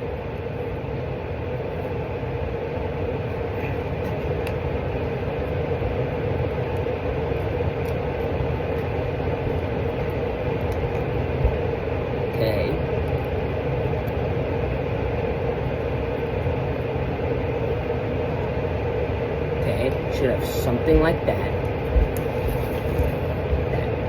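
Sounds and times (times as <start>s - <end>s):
machine-like rumble and hum: 0.0s - 24.0s.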